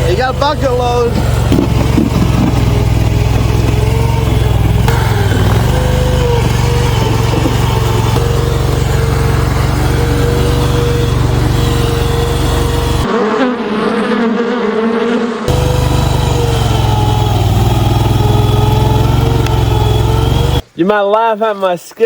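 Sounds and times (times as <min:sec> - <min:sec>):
small gasoline engine running: 0:00.0 - 0:13.1, 0:15.5 - 0:20.6
steady whine: 0:00.0 - 0:13.8, 0:15.3 - 0:20.6.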